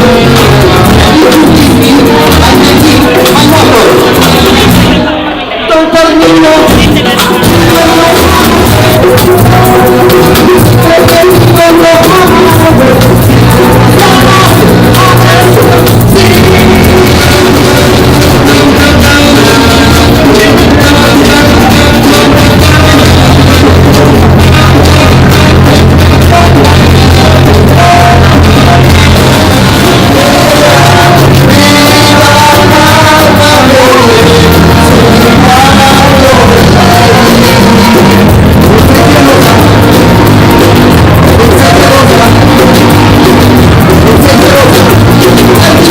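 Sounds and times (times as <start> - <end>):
live band playing: 0.0 - 45.9
person singing: 0.0 - 45.9.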